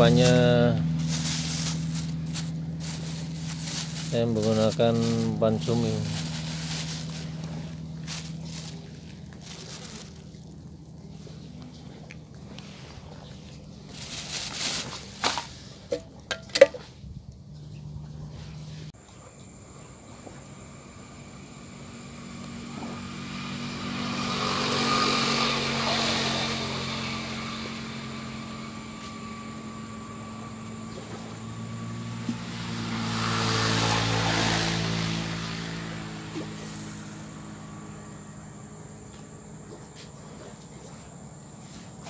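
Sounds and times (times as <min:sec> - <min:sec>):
vehicles passing on road: 0:00.0 - 0:19.0, 0:20.3 - 0:42.0.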